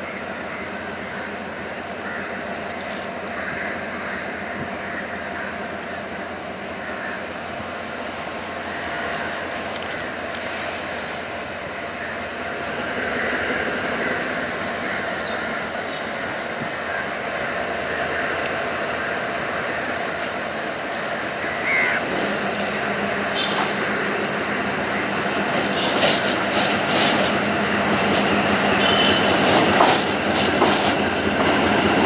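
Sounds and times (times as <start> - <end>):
diesel locomotive engines running: 0.0 - 32.0.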